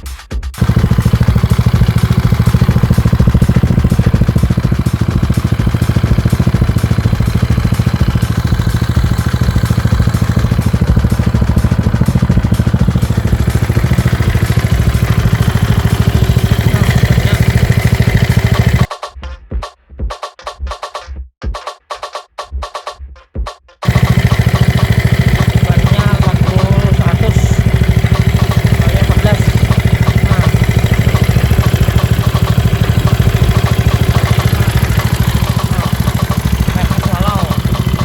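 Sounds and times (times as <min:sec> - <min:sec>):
scooter engine running: 0:00.6 - 0:18.9, 0:23.8 - 0:38.0.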